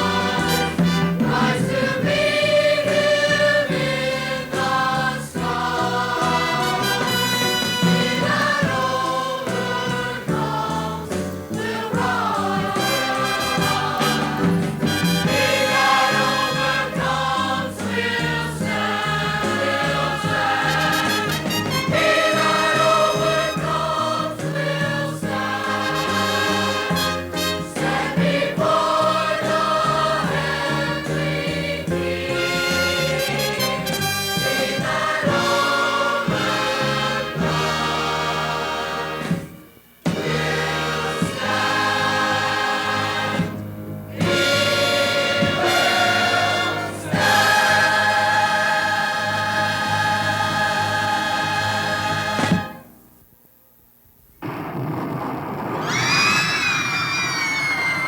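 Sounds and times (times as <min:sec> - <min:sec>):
choir singing with accompaniment: 0:00.0 - 0:53.0.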